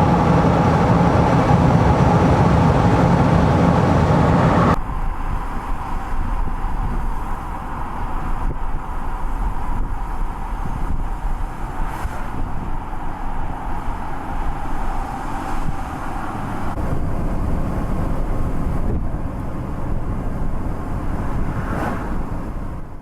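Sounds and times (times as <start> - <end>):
road and wind noise: 0.0 - 23.0
vehicle rumble: 0.0 - 23.0.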